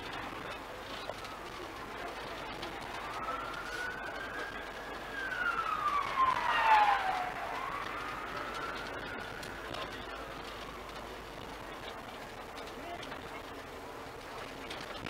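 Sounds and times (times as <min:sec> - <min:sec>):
emergency siren wailing: 0:00.0 - 0:15.0.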